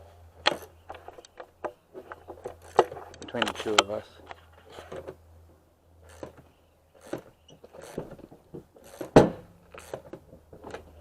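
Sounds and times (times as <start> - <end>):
tools clicking and knocking: 0.4 - 5.2, 6.1 - 11.0.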